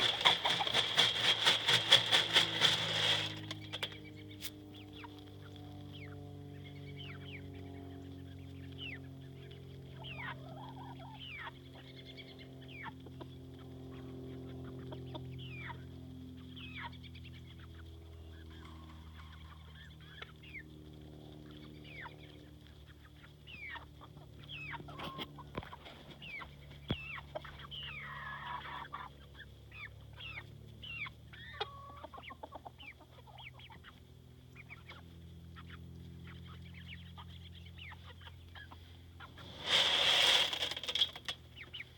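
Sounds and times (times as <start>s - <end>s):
chickens chirping: 0.0s - 41.9s.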